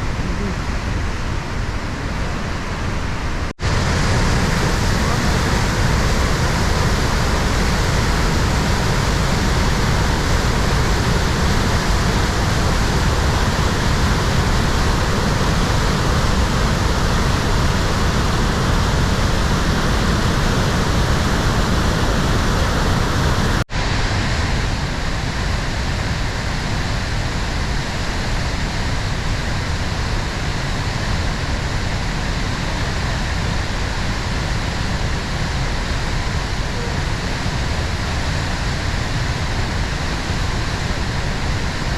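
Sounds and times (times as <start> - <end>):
waterfall rushing water: 0.0 - 41.9.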